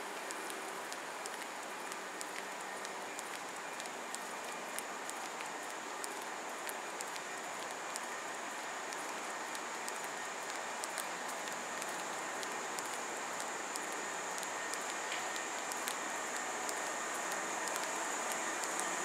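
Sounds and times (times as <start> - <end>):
train hiss and hum: 0.0 - 19.0.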